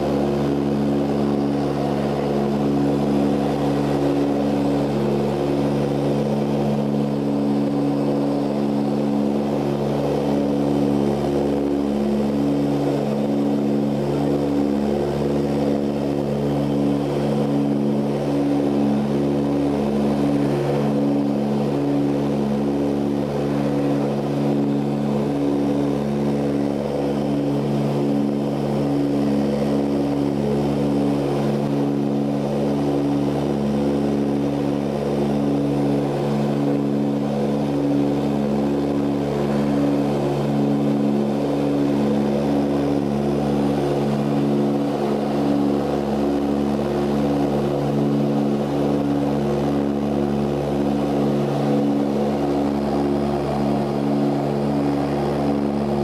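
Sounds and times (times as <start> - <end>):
turboprop engines droning in cabin: 0.0 - 56.0.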